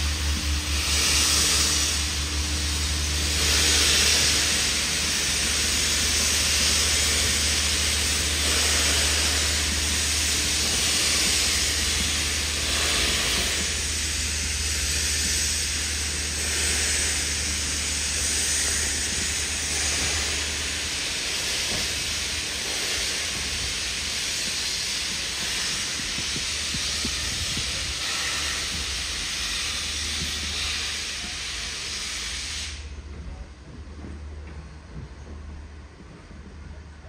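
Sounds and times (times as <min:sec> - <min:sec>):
steam hissing: 0:00.0 - 0:33.1.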